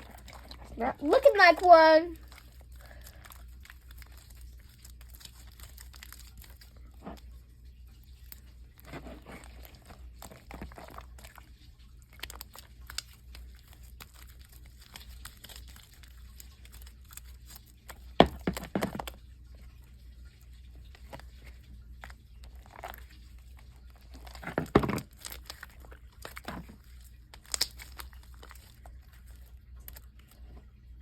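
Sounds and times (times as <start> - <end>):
light crinkling: 0.0 - 31.0
low steady hum: 0.0 - 31.0.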